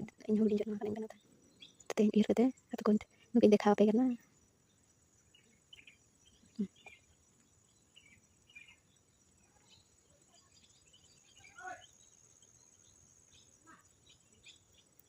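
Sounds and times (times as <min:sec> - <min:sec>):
high insect drone: 0:00.0 - 0:15.0
small birds chirping: 0:00.0 - 0:15.0.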